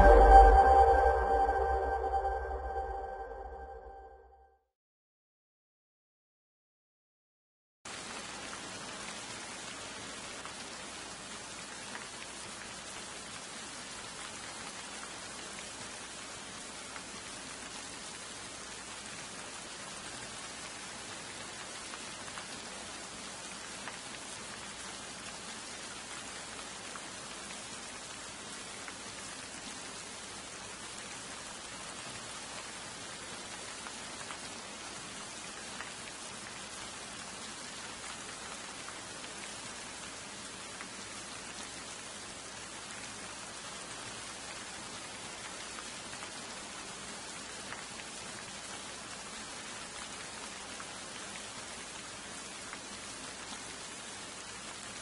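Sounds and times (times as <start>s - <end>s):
steady rain falling: 0.0s - 3.6s, 7.9s - 55.0s.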